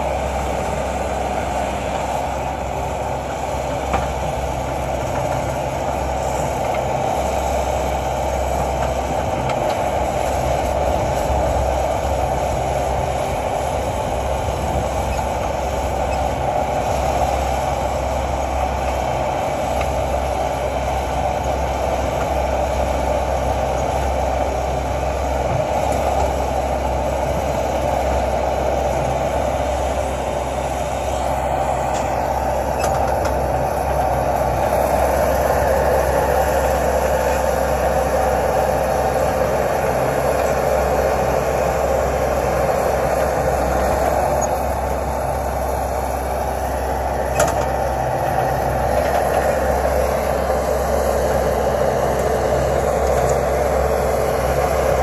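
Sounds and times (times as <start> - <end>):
diesel engine droning under load: 0.0 - 55.0.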